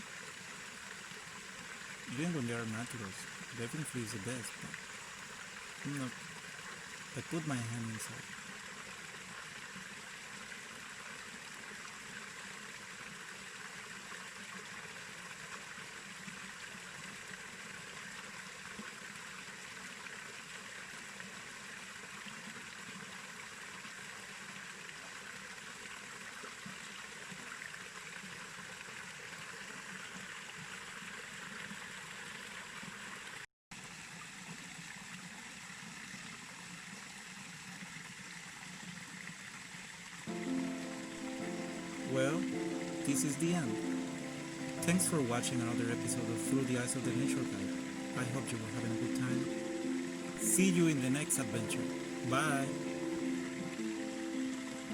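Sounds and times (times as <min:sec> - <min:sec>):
small waterfall rushing: 0:00.0 - 0:54.9.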